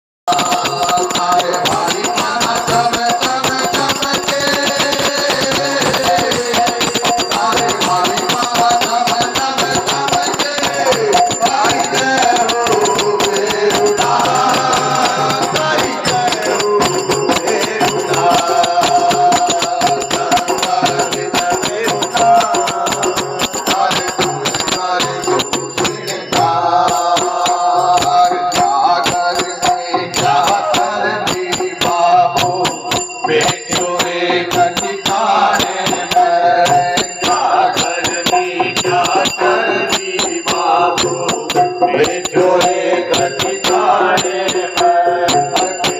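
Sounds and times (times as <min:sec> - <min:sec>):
devotional singing: 0:00.3 - 0:45.9
jingling percussion: 0:00.3 - 0:45.9.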